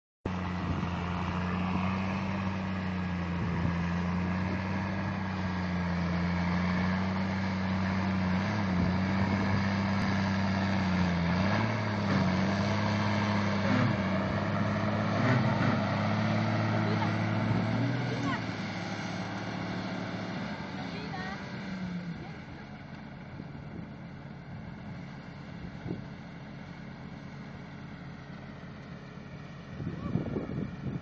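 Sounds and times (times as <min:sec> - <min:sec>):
tractor diesel engine droning: 0:00.3 - 0:31.0.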